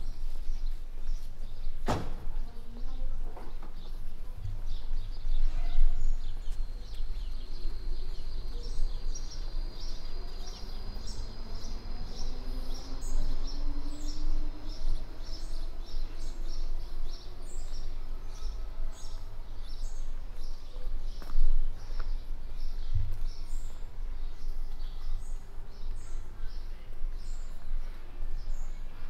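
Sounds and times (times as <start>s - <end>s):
low city rumble: 0.0s - 29.0s
small birds chirping: 0.0s - 29.0s.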